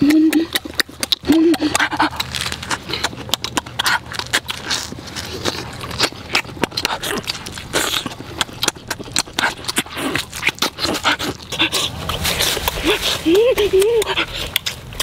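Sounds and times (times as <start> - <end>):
person eating noisily: 0.0 - 15.0.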